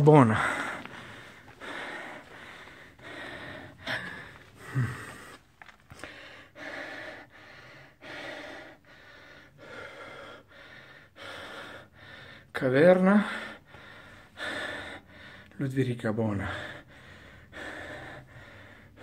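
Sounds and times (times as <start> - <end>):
person breathing hard: 0.0 - 15.6, 16.3 - 19.0.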